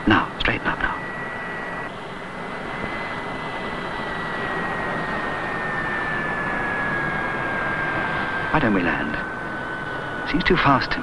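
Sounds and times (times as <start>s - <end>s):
jet engine rushing with whine: 0.0s - 11.0s.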